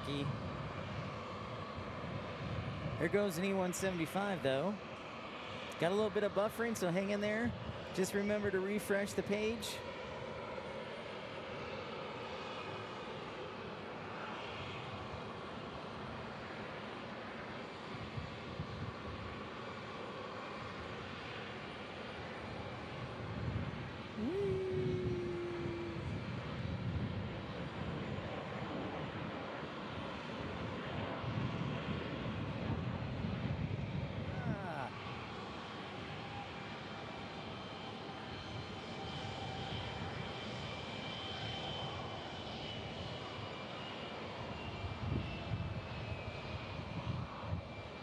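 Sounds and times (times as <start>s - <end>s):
distant jet engines rushing: 0.0s - 48.0s.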